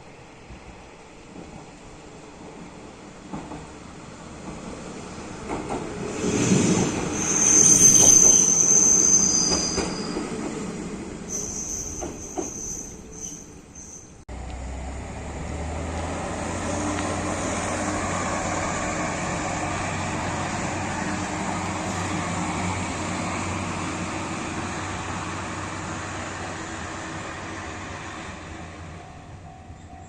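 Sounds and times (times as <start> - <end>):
train wheels rumbling: 0.1 - 30.0.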